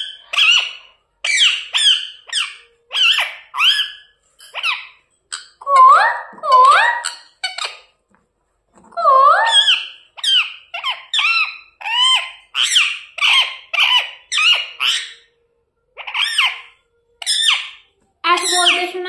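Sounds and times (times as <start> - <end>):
parrot squawking: 0.0 - 7.9, 8.9 - 15.3, 16.0 - 19.0.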